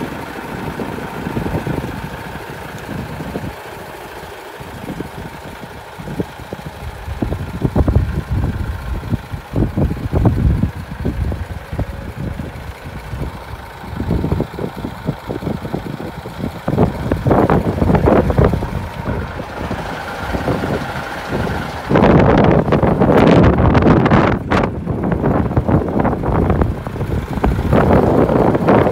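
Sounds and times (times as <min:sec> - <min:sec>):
truck diesel engine idling: 0:00.0 - 0:28.9
wind buffeting microphone: 0:00.0 - 0:28.9.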